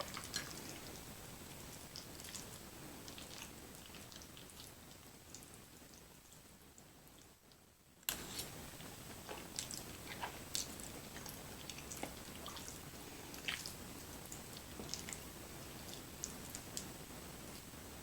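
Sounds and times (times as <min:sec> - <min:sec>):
chewing food: 0:00.0 - 0:06.4, 0:08.4 - 0:16.9.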